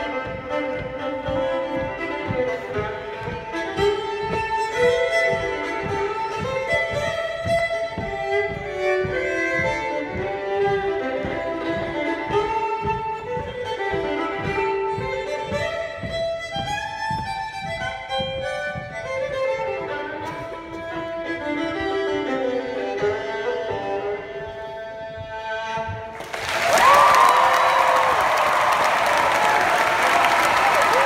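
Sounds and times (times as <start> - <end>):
fiddle playing dance tune: 0.0 - 31.0
low thumps keeping beat: 0.0 - 31.0.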